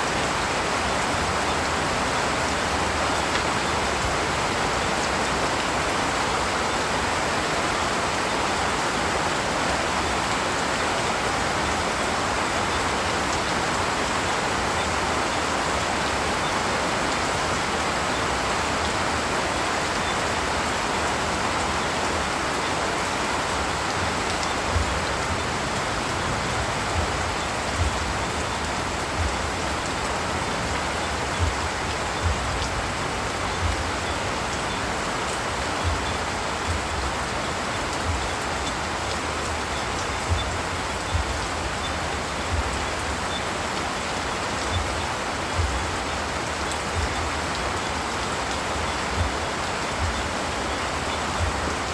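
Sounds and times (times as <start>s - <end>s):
rain falling in forest: 0.0s - 51.9s.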